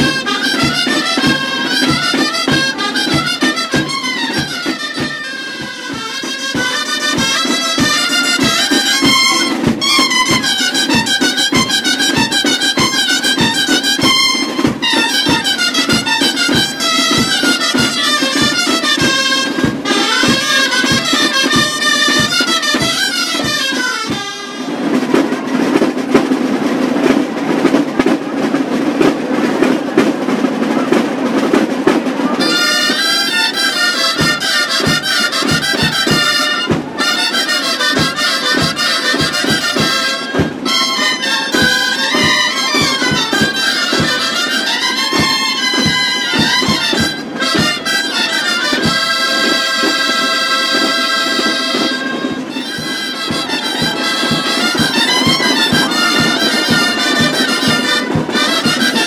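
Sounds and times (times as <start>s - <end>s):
shawms playing folk melody: 0.0s - 59.0s
snare drum beats: 0.0s - 59.0s.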